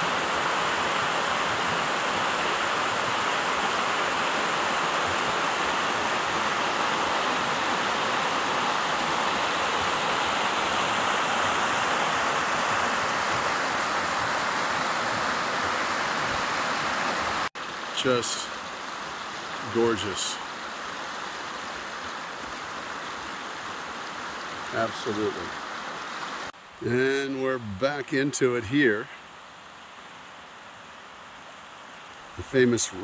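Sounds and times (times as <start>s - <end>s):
water rushing over rocks: 0.0s - 28.4s.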